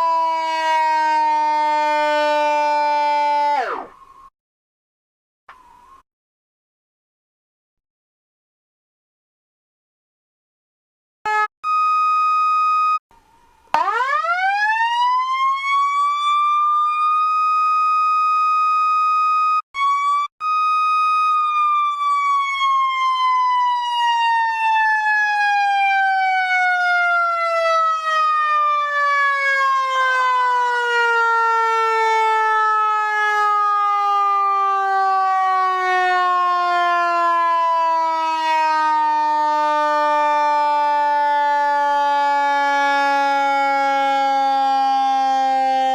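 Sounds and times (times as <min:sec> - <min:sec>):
electronic siren winding up and down: 0:00.0 - 0:04.3, 0:11.3 - 0:45.9.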